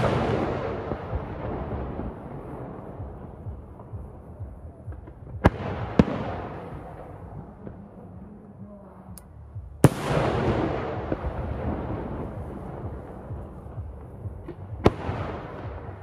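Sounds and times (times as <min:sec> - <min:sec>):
firework bangs echoing: 0:00.0 - 0:08.0, 0:09.8 - 0:16.0
distant firework bursts: 0:00.0 - 0:08.2, 0:09.8 - 0:16.0.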